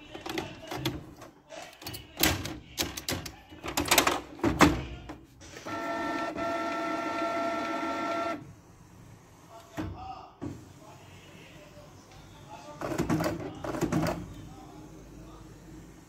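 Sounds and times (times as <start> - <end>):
printer mechanism whining: 0.0 - 10.9, 11.6 - 16.0.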